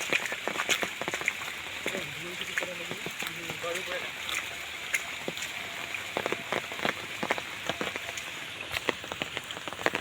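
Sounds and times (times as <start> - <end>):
rain hissing: 0.0 - 10.0
raindrops tapping: 0.0 - 10.0.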